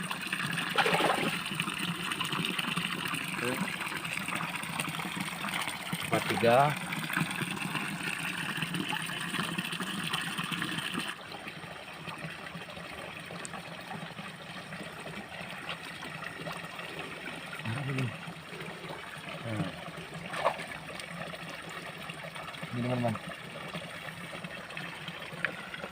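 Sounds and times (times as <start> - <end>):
water trickling and running: 0.0 - 25.9.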